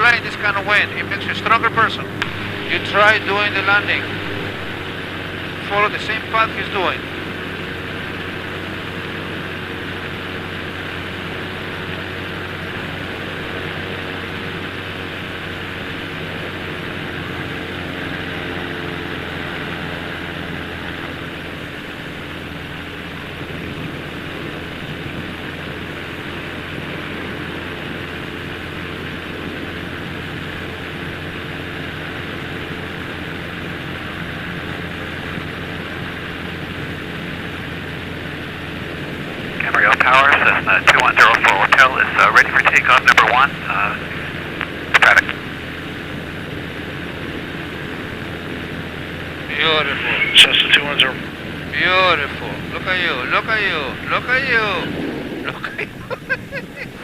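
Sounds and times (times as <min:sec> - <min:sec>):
aircraft engine drone: 0:00.0 - 0:57.0.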